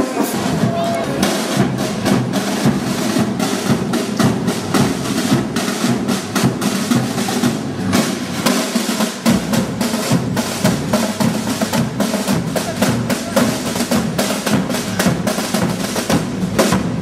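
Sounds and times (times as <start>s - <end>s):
snare drum rolls: 0.0s - 17.0s.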